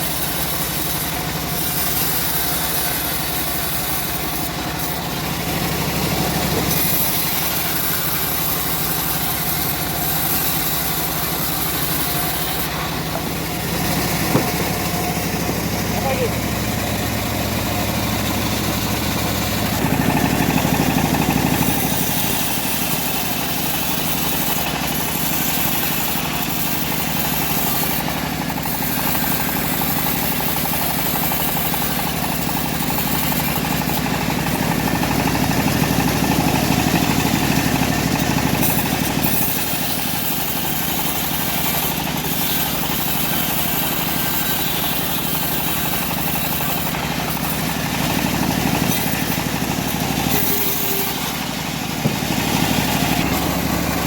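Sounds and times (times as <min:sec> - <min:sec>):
bandsaw mill engine running: 0:00.0 - 0:54.0.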